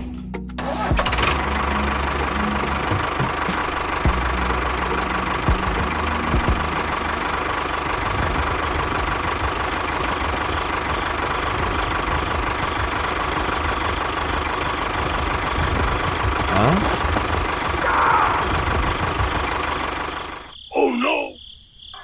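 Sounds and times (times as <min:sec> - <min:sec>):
engine running: 0:00.0 - 0:20.5.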